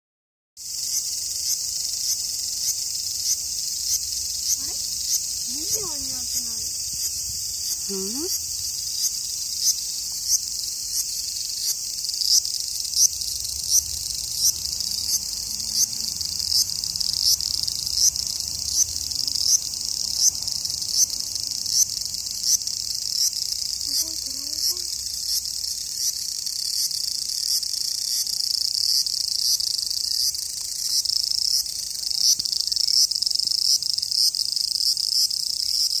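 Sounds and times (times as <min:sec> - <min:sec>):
cicadas calling: 0:00.6 - 0:36.0.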